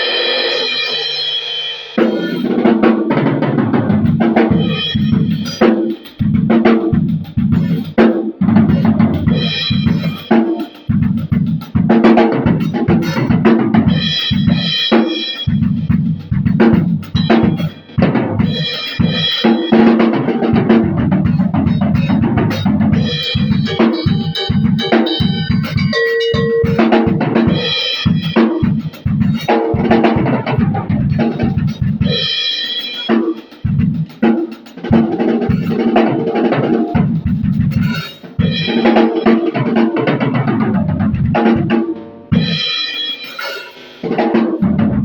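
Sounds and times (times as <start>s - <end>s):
drum kit playing: 0.0s - 45.0s.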